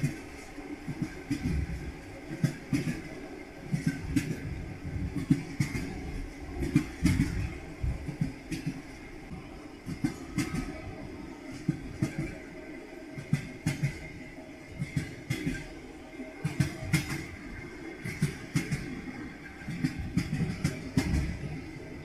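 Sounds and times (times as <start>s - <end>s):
train wheels clacking over rail joints: 0.0s - 9.0s, 9.8s - 10.9s, 11.5s - 12.4s, 13.2s - 15.8s, 16.4s - 21.9s
railway carriage rumble: 0.0s - 22.0s.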